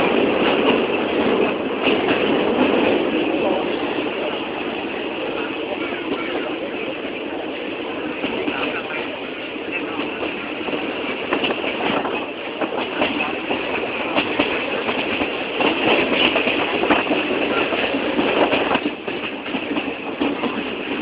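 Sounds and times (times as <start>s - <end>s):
passenger train running on rails: 0.0s - 21.0s.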